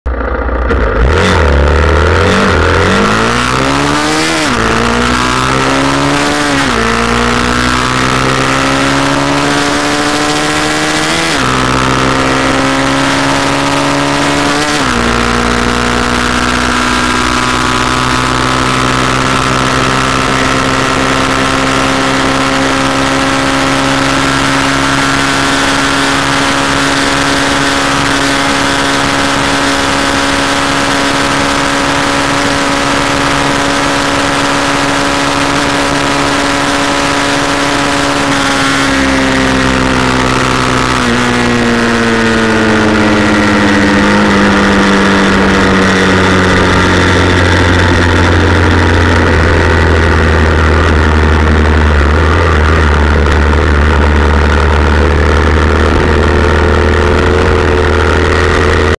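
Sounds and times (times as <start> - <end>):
motorcycle engine revving: 0.1 - 58.9.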